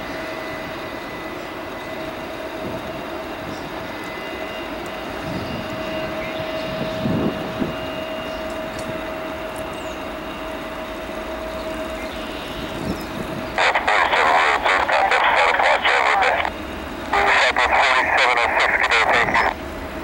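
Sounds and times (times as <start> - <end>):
jet engine whine: 0.0 - 20.0
jet engines roaring: 0.0 - 20.0.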